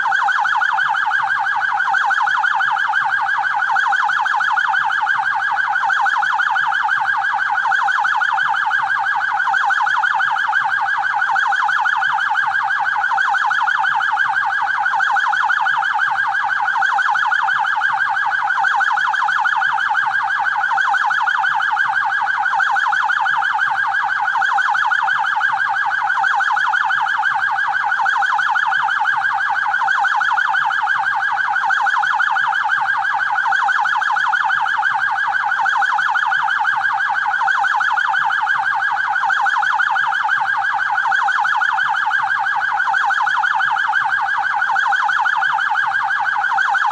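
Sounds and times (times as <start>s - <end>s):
electronic police siren warbling: 0.0s - 46.9s.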